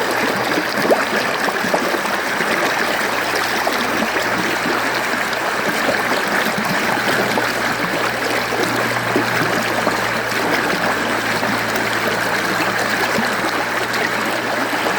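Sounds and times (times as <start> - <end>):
stream flowing over rocks: 0.0 - 14.9.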